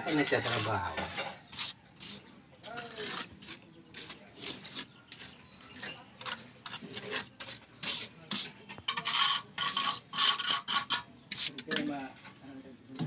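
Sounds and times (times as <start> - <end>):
trowel scraping wet mortar: 0.0 - 12.0.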